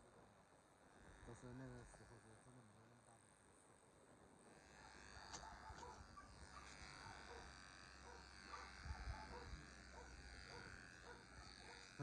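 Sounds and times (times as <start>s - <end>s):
electric hair clippers running: 0.9s - 3.5s, 4.3s - 12.0s.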